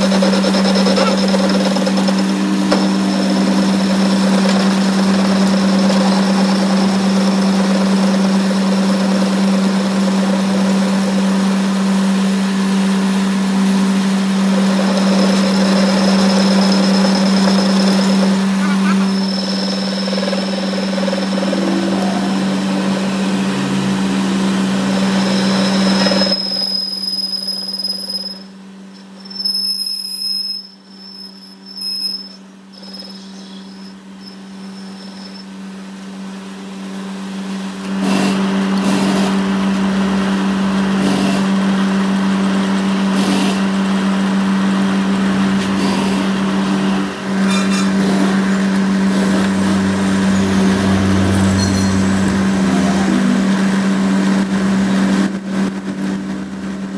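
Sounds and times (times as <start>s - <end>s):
shop machinery humming: 0.0s - 29.8s, 30.7s - 56.9s
thin high whine: 0.0s - 56.9s.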